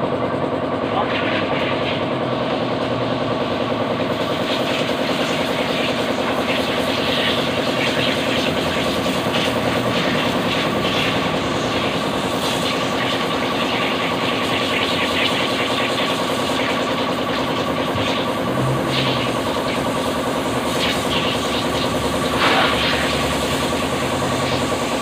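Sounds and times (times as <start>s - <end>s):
motor pulsing hum: 0.0s - 25.0s.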